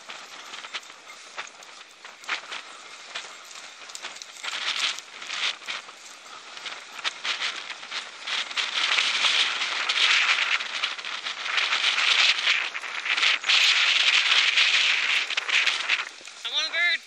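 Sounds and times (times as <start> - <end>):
crackling through dry undergrowth: 0.0 - 17.0.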